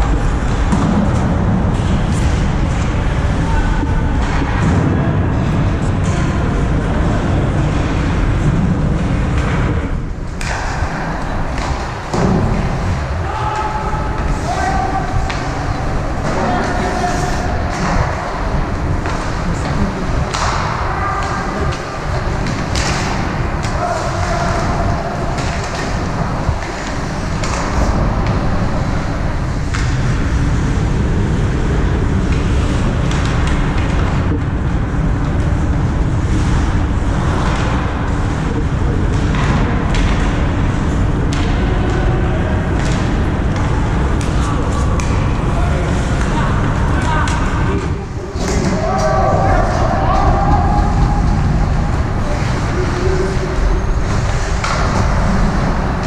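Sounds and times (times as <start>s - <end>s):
low rumble of hockey game: 0.0s - 56.0s.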